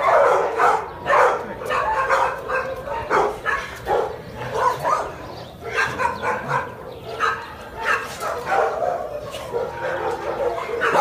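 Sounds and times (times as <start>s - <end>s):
kenneled dogs barking: 0.0s - 11.0s.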